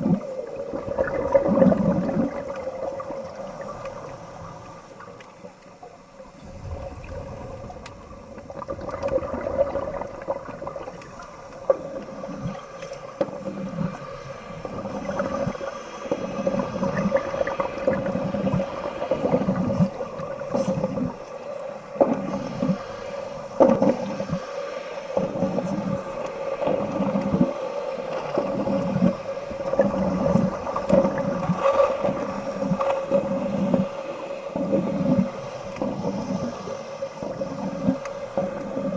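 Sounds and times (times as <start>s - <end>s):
steady hum: 0.0s - 38.9s
underwater bubbling and gurgling: 0.0s - 38.9s.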